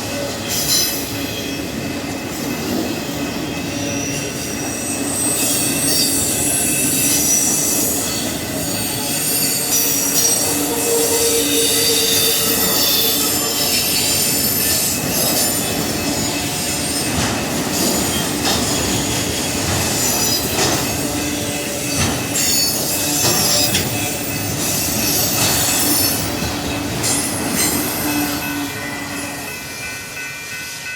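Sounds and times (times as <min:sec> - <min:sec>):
freight train running noise: 0:00.0 - 0:30.9
rail joint clacks: 0:00.0 - 0:30.9
train wheels squealing: 0:00.0 - 0:30.9.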